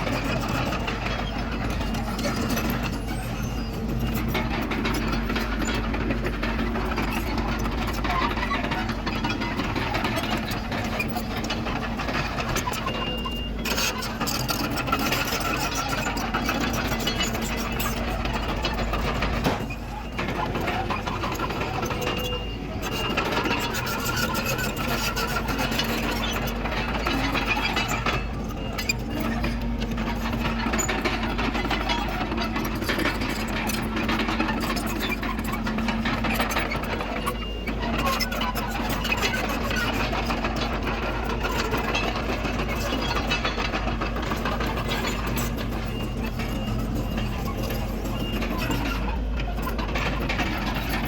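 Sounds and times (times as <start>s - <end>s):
bulldozer diesel engine under load: 0.0s - 51.0s
machine rattling clicks and knocks: 0.0s - 51.0s.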